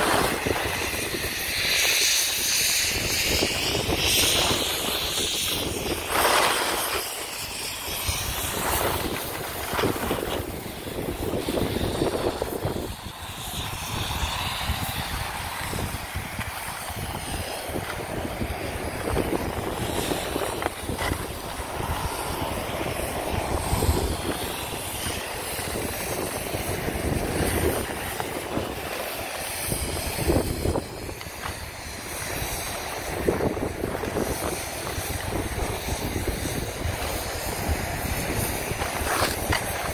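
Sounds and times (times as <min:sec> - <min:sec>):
skis scraping over snow: 0:00.0 - 0:39.9
wind buffeting microphone: 0:00.0 - 0:39.9.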